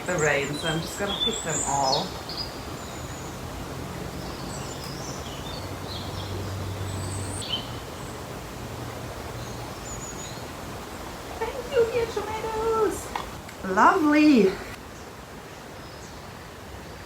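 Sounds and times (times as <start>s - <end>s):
small birds chirping: 0.0s - 17.0s
steady background noise: 0.0s - 17.0s.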